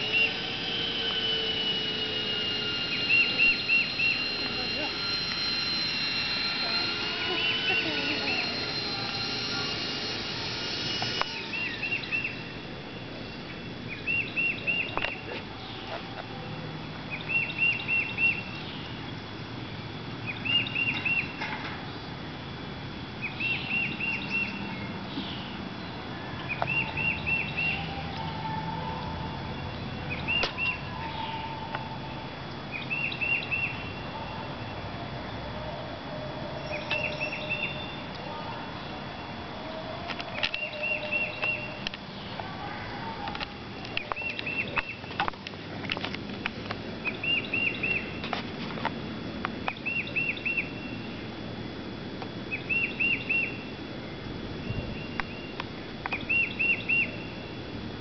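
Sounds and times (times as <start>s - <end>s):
fainter lower bird calls: 0.0s - 19.2s, 20.2s - 21.4s, 23.2s - 34.9s, 35.6s - 45.2s, 47.0s - 48.3s, 49.8s - 51.2s, 52.5s - 57.6s
songbird singing: 0.0s - 22.2s, 23.2s - 45.7s, 46.5s - 48.4s, 49.6s - 51.3s, 52.5s - 57.7s.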